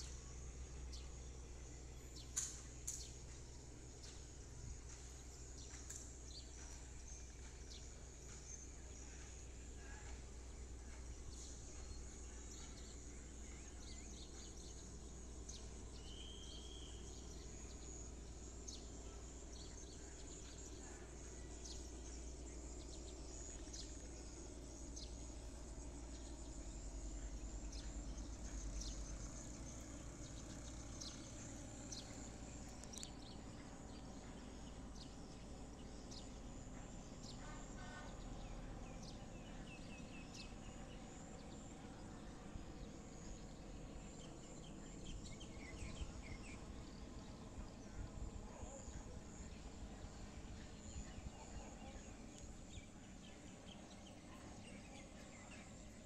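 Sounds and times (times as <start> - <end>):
distant helicopter rotor rumble: 0.0 - 56.0
small birds chirping: 0.0 - 56.0.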